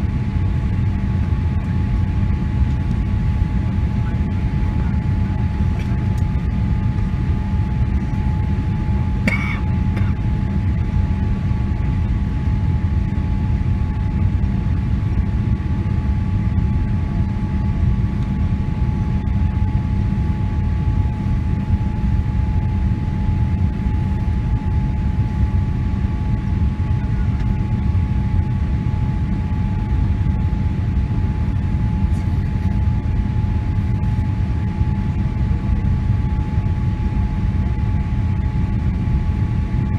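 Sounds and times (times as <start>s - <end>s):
airliner cabin engine drone: 0.0s - 39.9s
constant whine: 0.0s - 39.9s.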